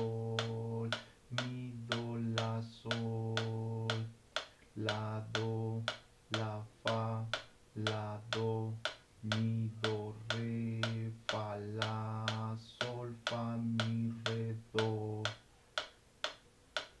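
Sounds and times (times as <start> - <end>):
man singing note names: 0.0 - 15.4
metronome clicking: 0.0 - 17.0.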